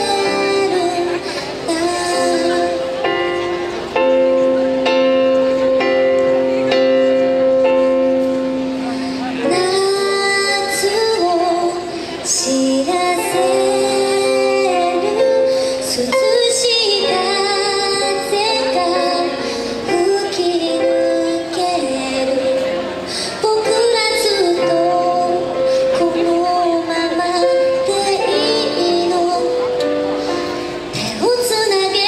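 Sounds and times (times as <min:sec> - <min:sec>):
woman singing a ballad: 0:00.0 - 0:03.4, 0:09.4 - 0:32.0
band accompaniment: 0:00.0 - 0:32.0.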